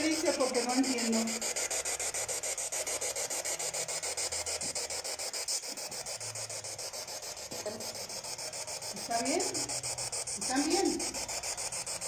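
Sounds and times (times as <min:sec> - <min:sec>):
pulsing radio static hiss: 0:00.0 - 0:12.0.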